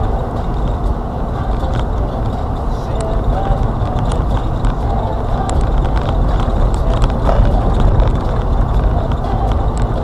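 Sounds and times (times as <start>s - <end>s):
car road and engine rumble: 0.0s - 10.0s.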